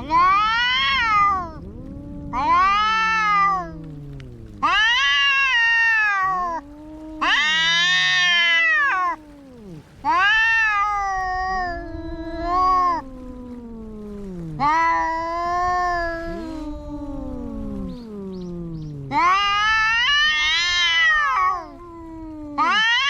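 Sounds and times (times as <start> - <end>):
cats yowling: 0.0 - 23.0.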